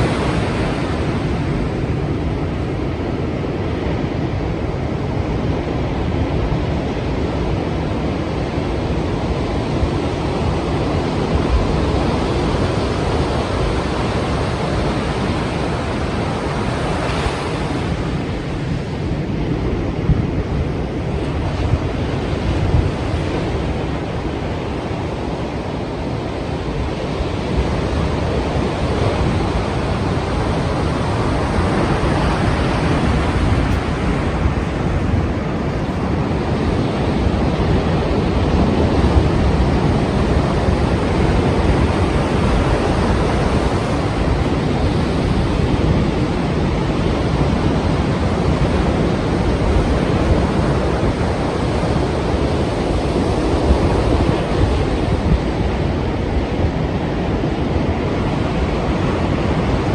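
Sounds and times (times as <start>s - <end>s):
ocean waves breaking: 0.0s - 59.9s
wind on microphone: 0.0s - 59.9s.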